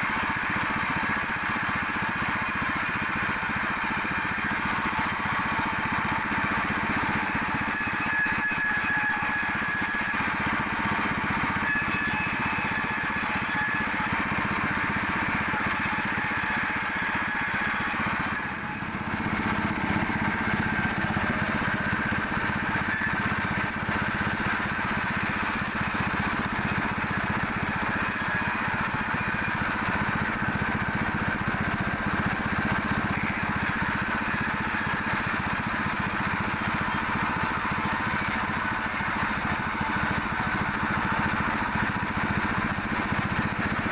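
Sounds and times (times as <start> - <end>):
high machine whine: 0.0 - 43.9
sawmill machinery drone: 0.0 - 43.9.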